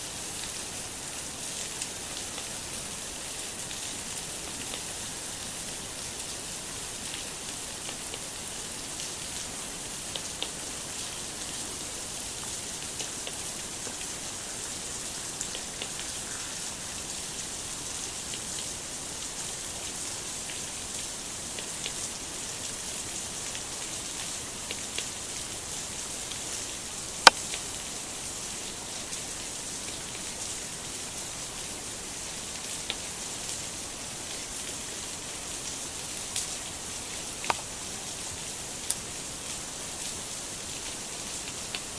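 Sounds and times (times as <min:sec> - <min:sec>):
rain falling on leaves: 0:00.0 - 0:41.9.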